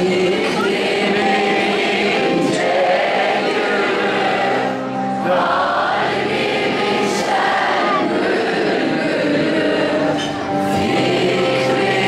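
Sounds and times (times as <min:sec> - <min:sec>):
person singing long sliding notes: 0:00.0 - 0:12.0.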